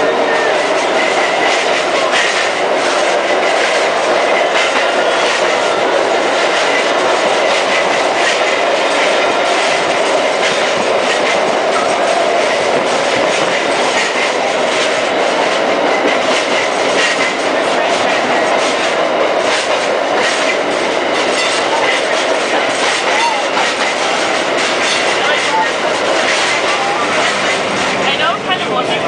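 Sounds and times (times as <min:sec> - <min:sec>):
streetcar wheels running: 0:00.0 - 0:29.0.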